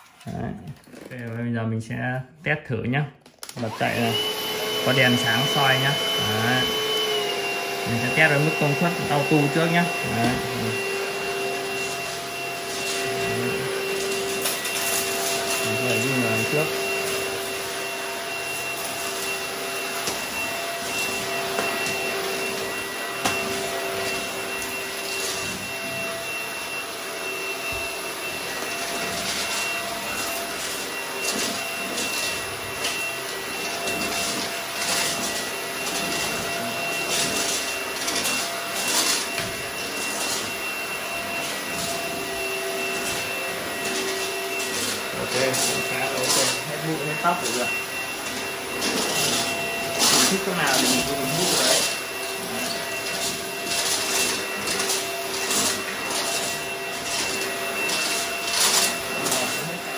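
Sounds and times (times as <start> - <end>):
stick vacuum running: 3.4 - 59.9.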